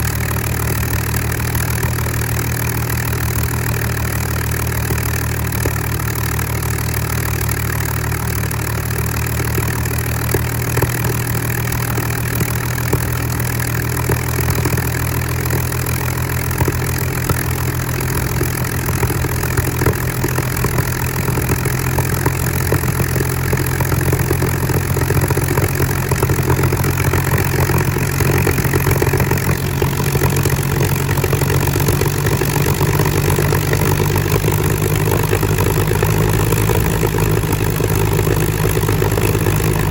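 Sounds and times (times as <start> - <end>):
aero engine running: 0.0 - 39.9.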